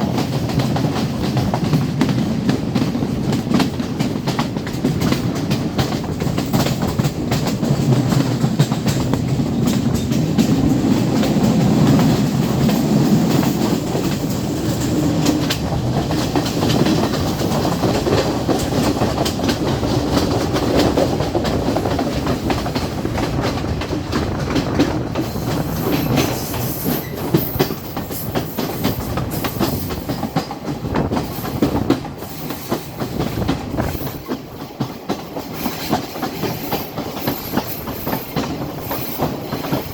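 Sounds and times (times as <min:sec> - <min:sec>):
train rumbling: 0:00.0 - 0:39.9
wheels clicking over rail joints: 0:00.0 - 0:39.9.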